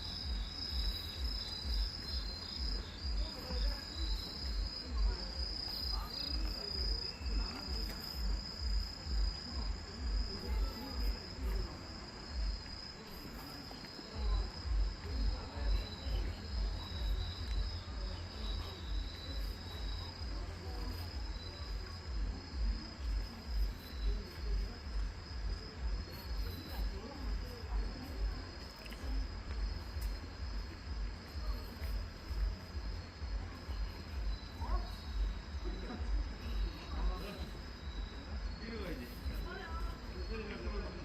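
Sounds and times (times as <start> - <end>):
low thumping beat: 0.0 - 13.0, 14.1 - 38.5
crickets trilling: 0.0 - 41.0.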